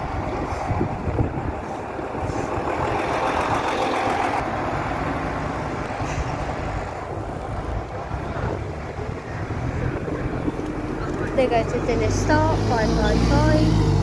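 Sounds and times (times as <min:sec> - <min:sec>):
bus driving past: 0:00.0 - 0:14.0
bus engine running: 0:00.0 - 0:14.0.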